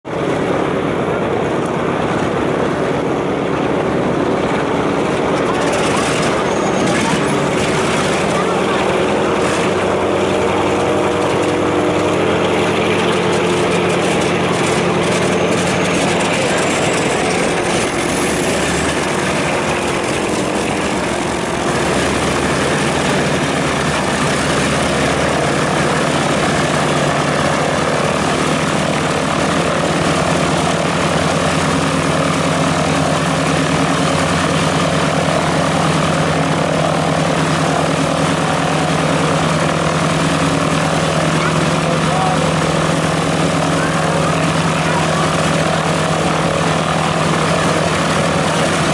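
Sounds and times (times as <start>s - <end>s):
radial piston aircraft engines: 0.0s - 48.9s.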